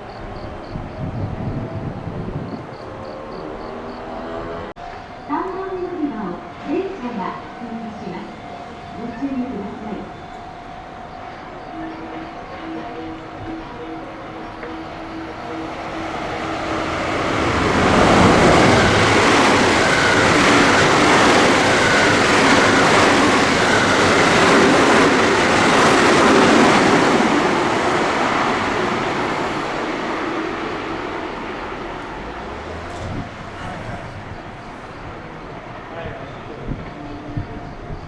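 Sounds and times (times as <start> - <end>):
train passing on rails: 0.0 - 38.0.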